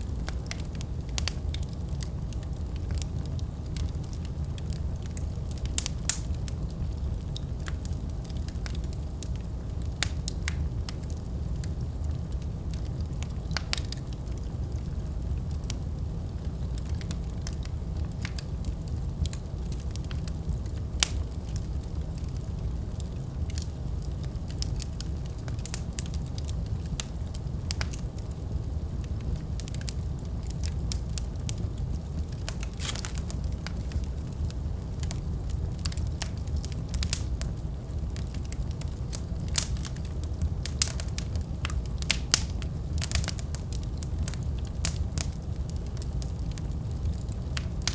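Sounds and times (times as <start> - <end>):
fire crackling and popping: 0.0 - 47.9
fire flames rumbling: 0.0 - 47.9.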